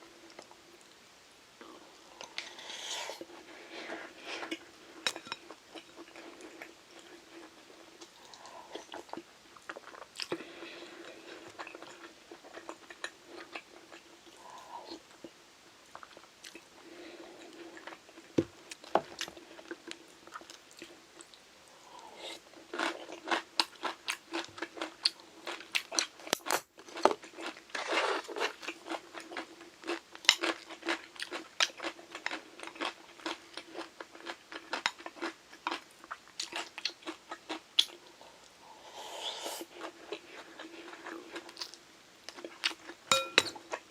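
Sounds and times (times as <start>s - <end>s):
faint steady hum: 0.0s - 43.9s
person chewing crunchy food: 2.1s - 15.2s, 21.9s - 43.9s.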